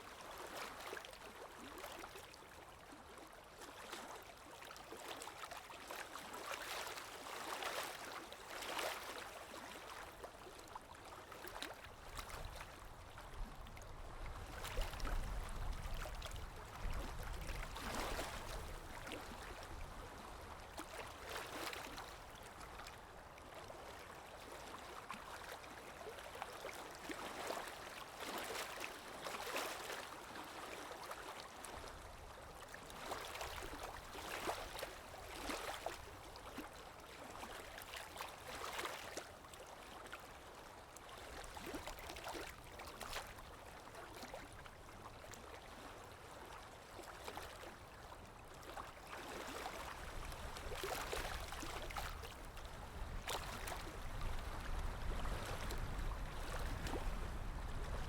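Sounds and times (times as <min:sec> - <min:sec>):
water lapping and splashing: 0:00.0 - 0:58.0.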